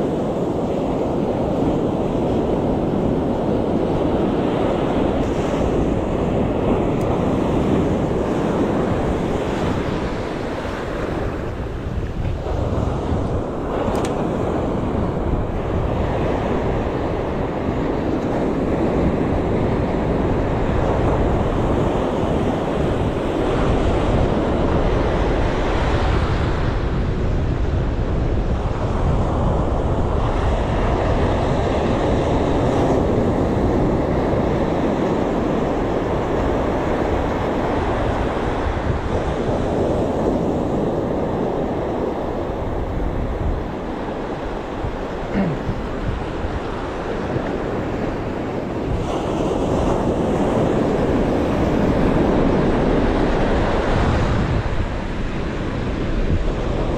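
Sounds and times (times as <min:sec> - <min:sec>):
sea waves washing in: 0:00.0 - 0:56.9
wind blowing across microphone: 0:00.0 - 0:56.9.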